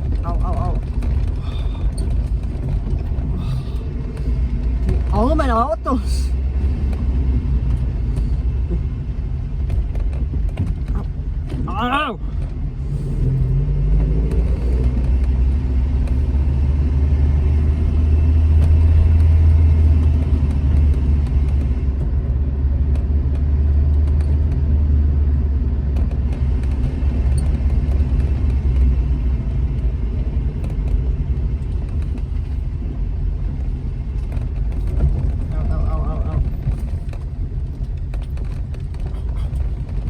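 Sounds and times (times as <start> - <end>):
car engine droning while driving: 0.0 - 40.0.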